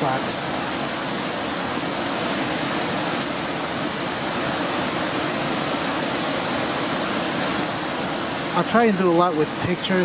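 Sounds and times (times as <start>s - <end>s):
waterfall and stream rushing: 0.0s - 10.0s.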